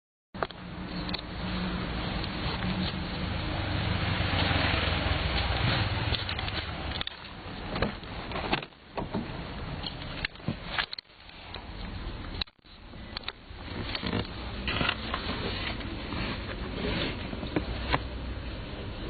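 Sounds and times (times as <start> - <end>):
car engine and road noise: 0.4 - 19.0.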